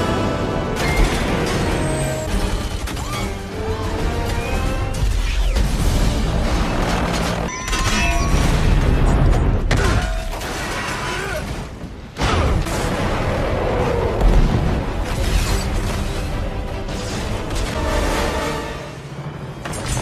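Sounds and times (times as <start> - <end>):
film score music: 0.0 - 20.0.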